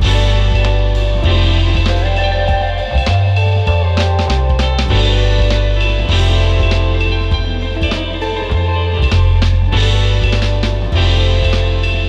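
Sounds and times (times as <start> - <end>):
music with bass drums and guitar: 0.0 - 12.0.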